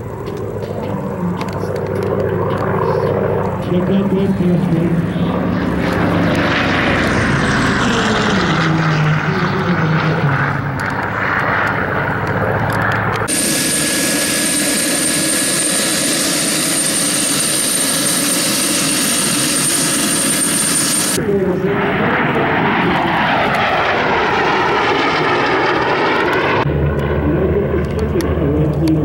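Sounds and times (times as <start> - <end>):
radial aircraft engine flyby: 0.0 - 29.0
turboprop turbine whine: 0.0 - 29.0.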